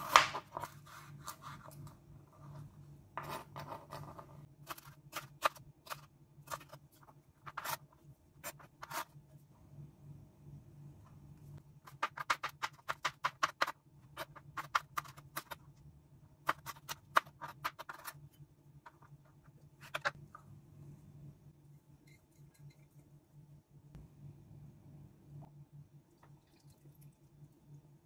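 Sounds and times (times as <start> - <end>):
faint low hum: 0.0 - 12.0, 12.8 - 28.0.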